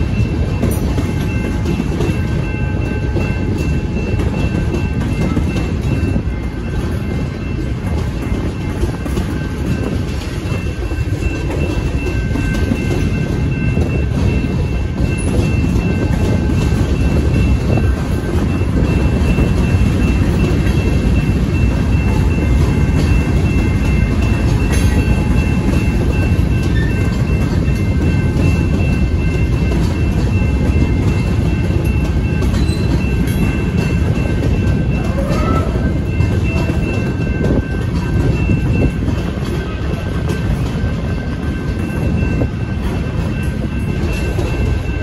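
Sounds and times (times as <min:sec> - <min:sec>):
freight train wheels rumbling on rails: 0:00.0 - 0:45.0.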